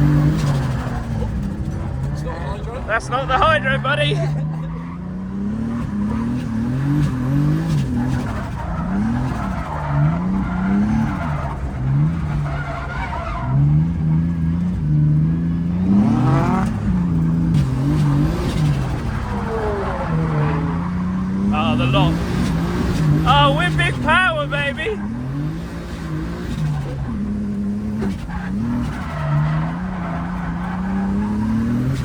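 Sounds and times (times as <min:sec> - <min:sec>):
car engine revving hard: 0:00.0 - 0:32.0
tyres skidding: 0:00.0 - 0:32.0.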